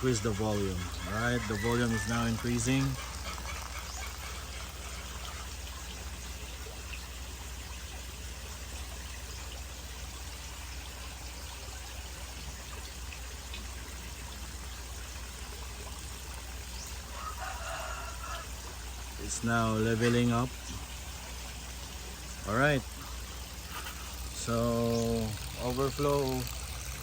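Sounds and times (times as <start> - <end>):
low steady hum: 0.0 - 27.0
water pouring and trickling: 0.0 - 27.0.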